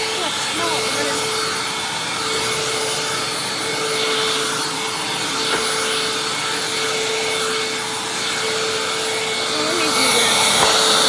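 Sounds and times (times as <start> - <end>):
vacuum cleaner running on carpet: 0.0 - 11.0.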